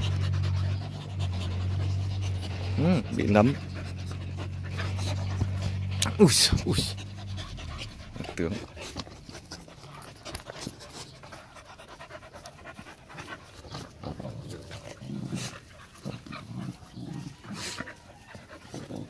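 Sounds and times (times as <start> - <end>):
puppies panting: 0.0 - 19.0.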